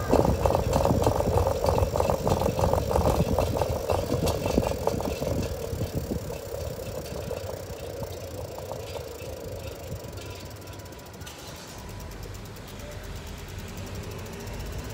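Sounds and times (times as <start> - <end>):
bicycle rolling over asphalt: 0.0 - 13.0
bicycle frame rattling: 0.0 - 14.9.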